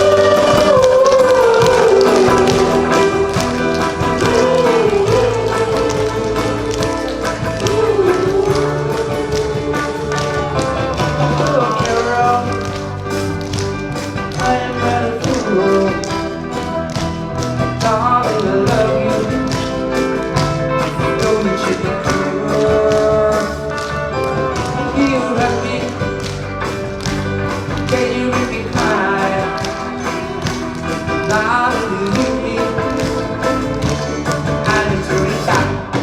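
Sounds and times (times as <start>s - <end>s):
live band playing pop song: 0.0s - 36.0s.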